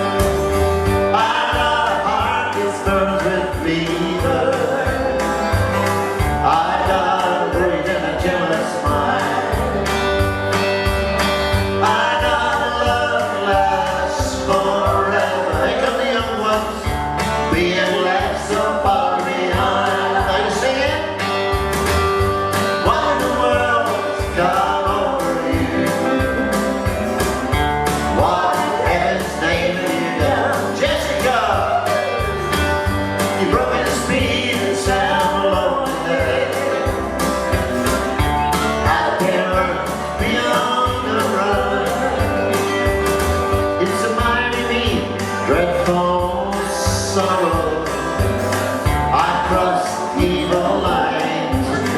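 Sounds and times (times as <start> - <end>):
country band playing: 0.0 - 51.9
person singing: 0.9 - 10.6, 11.6 - 21.5, 22.6 - 51.9.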